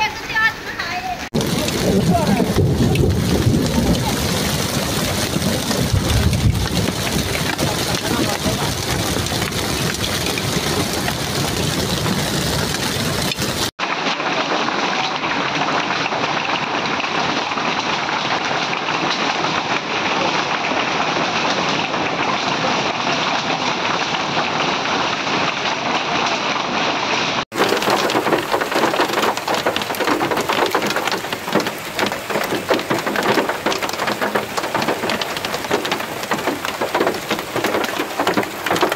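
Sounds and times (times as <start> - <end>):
hail and rain pattering: 0.0 - 38.9.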